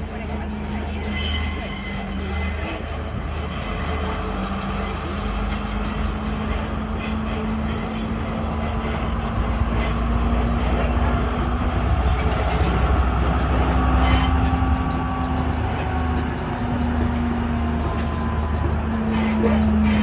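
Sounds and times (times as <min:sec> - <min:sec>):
diesel train rumbling: 0:00.0 - 0:20.0.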